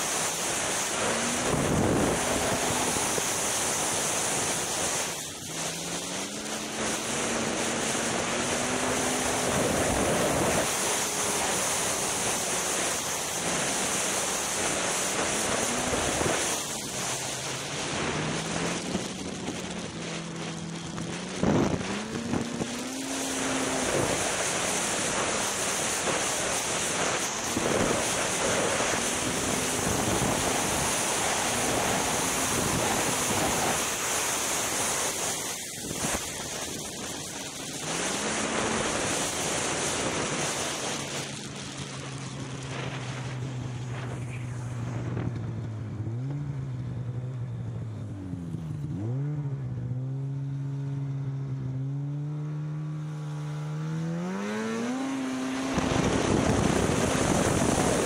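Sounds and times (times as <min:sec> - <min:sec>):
snowmobile engine revving: 0:00.0 - 0:58.0
wind and track noise: 0:00.0 - 0:58.0.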